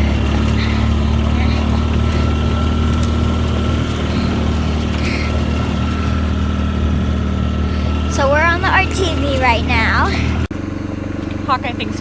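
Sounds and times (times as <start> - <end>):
constant high whine: 0.0 - 12.0
utility vehicle engine running: 0.0 - 12.0.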